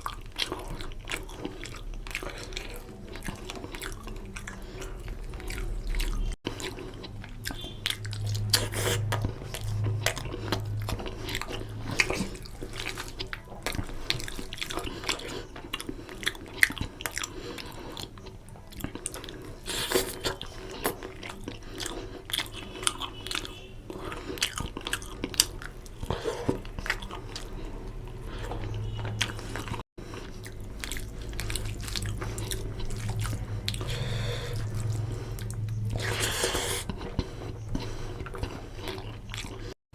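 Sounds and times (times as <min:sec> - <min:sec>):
wet chewing and mouth smacks: 0:00.0 - 0:39.8.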